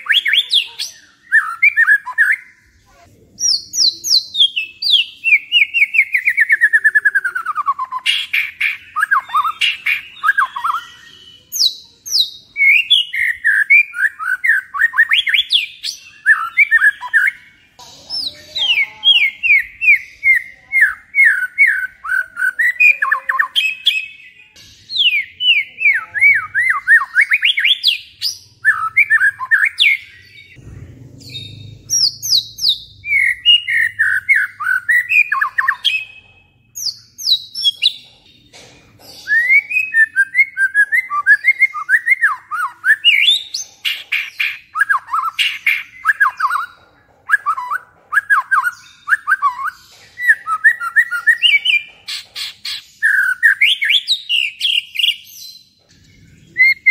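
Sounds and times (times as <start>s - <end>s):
songbird singing whistled notes: 0.0s - 2.7s, 3.4s - 30.6s, 31.2s - 38.0s, 39.2s - 56.9s.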